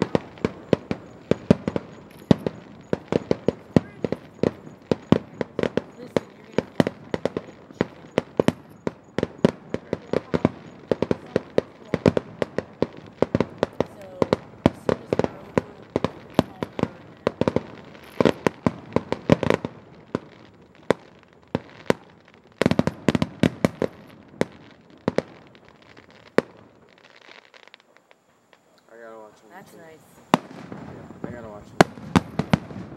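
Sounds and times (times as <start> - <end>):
fireworks bangs and pops: 0.0 - 32.9.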